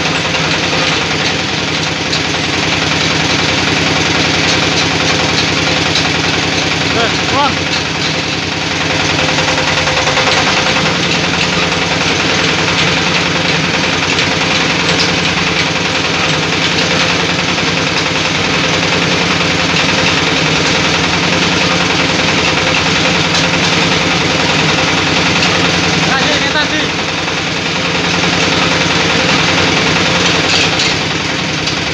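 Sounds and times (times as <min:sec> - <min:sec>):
meat grinder running: 0:00.0 - 0:31.9.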